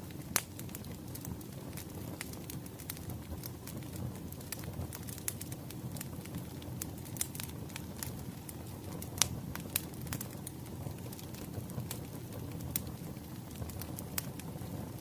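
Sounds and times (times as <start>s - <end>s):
sharp pops from fire: 0.0s - 15.0s
wood fire crackling: 0.0s - 15.0s.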